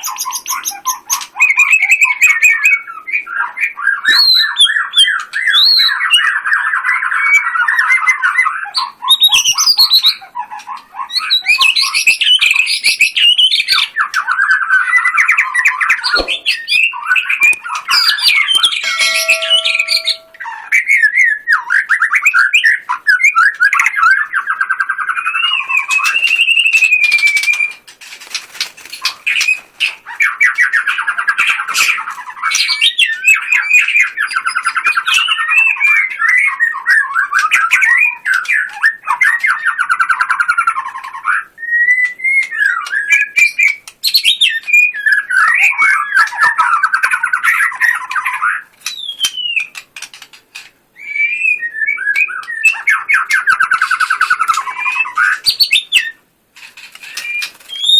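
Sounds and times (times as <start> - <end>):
bird singing trills and whistles: 0.0 - 27.8, 29.0 - 56.2, 56.8 - 57.9.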